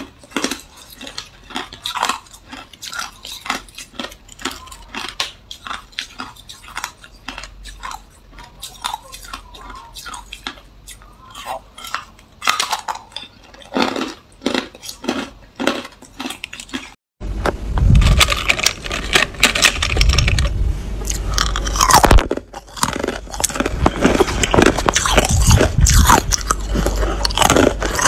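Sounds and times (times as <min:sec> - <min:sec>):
ice being chewed: 0:00.0 - 0:17.0, 0:18.0 - 0:28.0.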